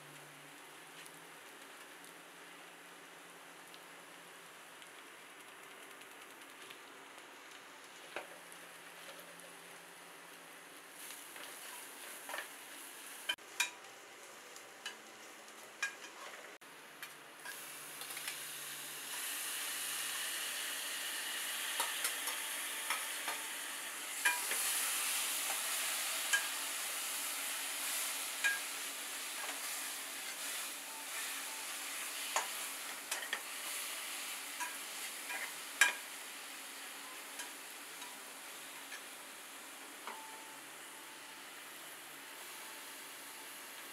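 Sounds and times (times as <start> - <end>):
onions sizzling in oil: 7.4 - 16.4, 17.4 - 43.9.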